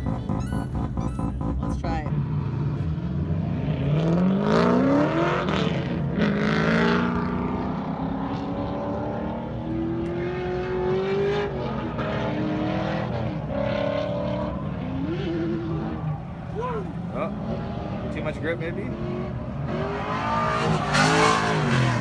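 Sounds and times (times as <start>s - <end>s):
car engine revving hard: 0.0s - 16.1s, 17.2s - 22.0s.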